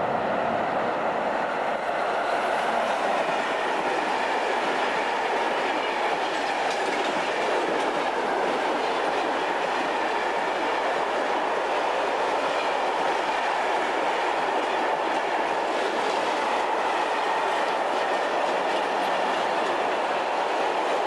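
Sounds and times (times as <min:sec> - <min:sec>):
train wheels rolling on rails: 0:00.0 - 0:21.0.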